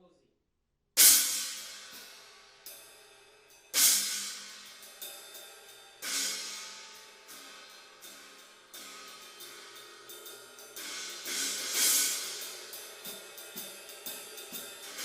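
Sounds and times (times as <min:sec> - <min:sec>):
china cymbal struck and ringing: 0:01.3 - 0:15.0.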